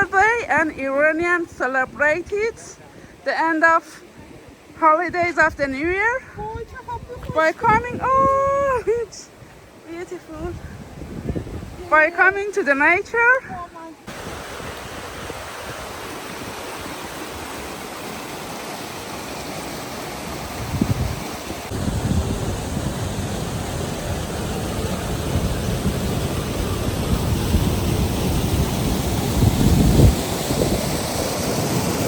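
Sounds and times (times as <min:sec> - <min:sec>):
wind hissing over microphone: 0:00.0 - 0:32.0
wind gusts buffeting microphone: 0:04.1 - 0:32.0.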